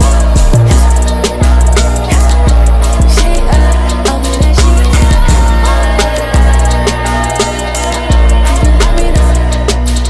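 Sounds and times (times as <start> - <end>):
sped-up hip hop music: 0.0 - 10.0.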